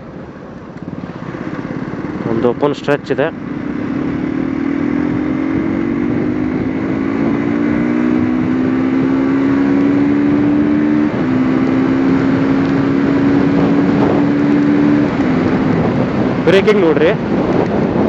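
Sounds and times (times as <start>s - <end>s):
motorcycle engine accelerating: 0.1s - 18.0s
wind rush on microphone: 0.7s - 18.0s.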